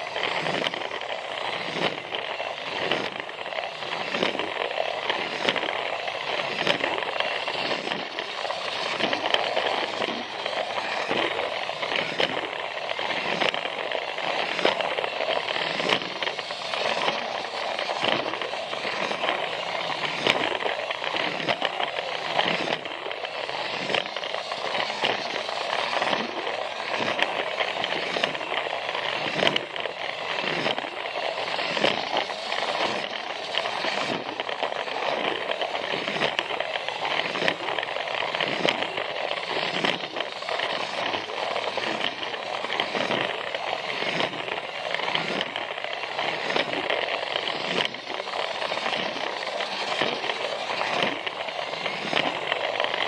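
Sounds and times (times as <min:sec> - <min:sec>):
small clicks: 0:00.0 - 0:53.0
toy train motor whirring: 0:00.0 - 0:53.0
wheels clacking over track joints: 0:00.0 - 0:53.0.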